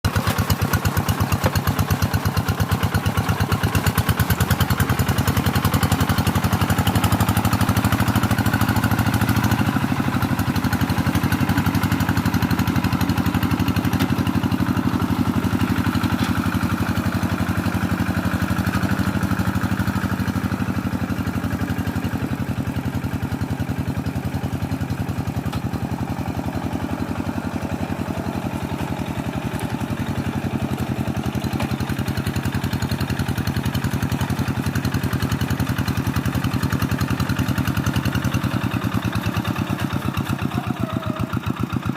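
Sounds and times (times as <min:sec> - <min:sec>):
small engine idling: 0:00.0 - 0:41.9.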